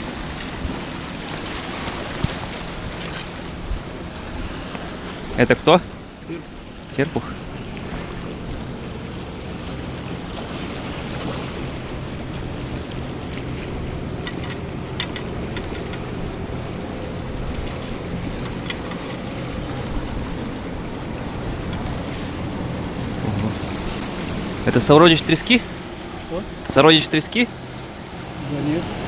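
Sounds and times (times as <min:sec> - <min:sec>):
low engine hum: 0:00.0 - 0:29.0
sea water washing on rocks: 0:00.0 - 0:29.0.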